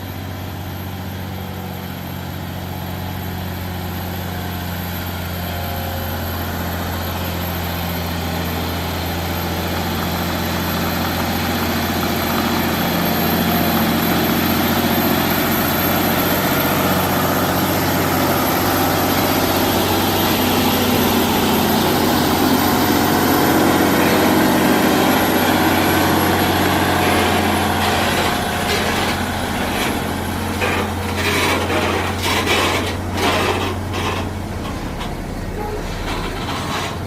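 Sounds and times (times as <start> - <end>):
truck diesel engine running: 0.0 - 37.0.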